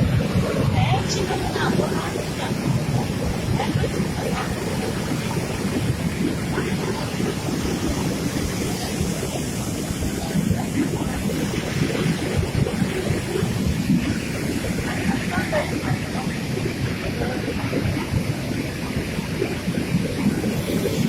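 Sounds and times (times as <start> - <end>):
floodwater rushing in a river: 0.0 - 21.0
wind buffeting microphone: 0.0 - 21.0.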